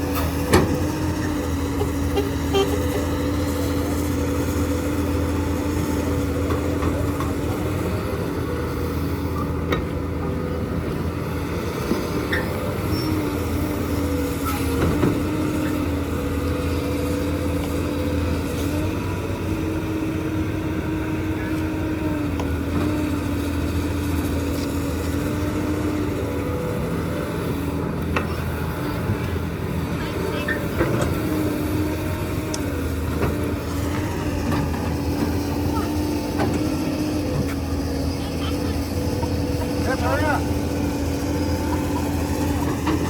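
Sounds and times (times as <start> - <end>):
diesel machinery running: 0.0 - 43.0.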